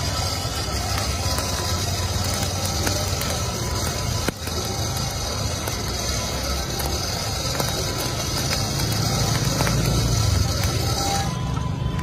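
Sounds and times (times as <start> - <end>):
gear clicks: 0.0 - 12.0
hand-cranked blower whirring: 0.0 - 12.0.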